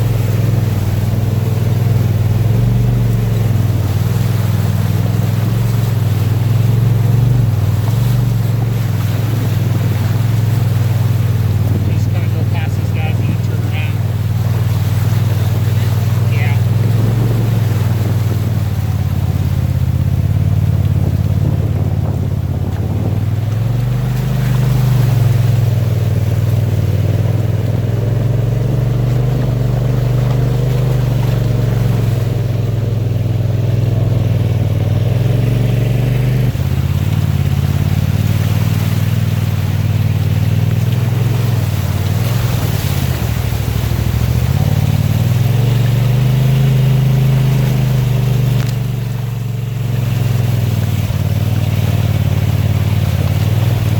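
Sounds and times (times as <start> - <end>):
vehicle engine running under throttle: 0.0 - 53.9.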